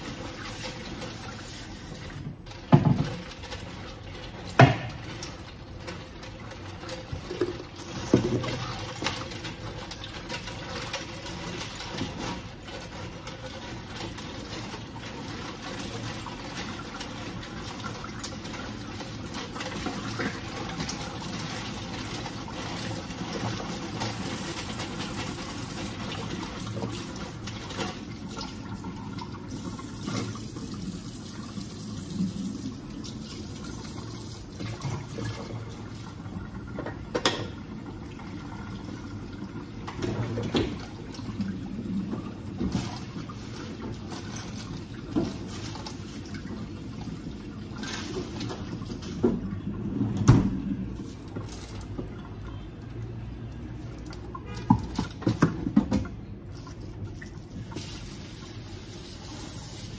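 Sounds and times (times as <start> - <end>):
tap water running into sink: 0.0 - 59.9.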